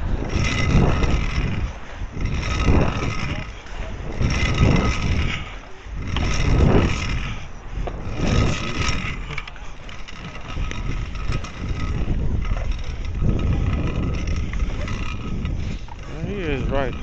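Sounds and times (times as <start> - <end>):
small wheels rolling on concrete: 0.0 - 17.0
wind buffeting microphone: 0.0 - 17.0.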